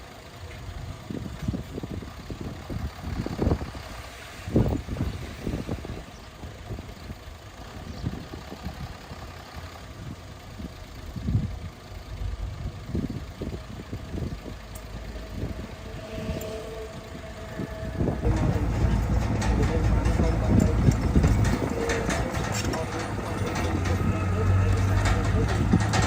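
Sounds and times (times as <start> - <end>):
heavy machinery diesel engine rumbling: 0.0 - 26.0.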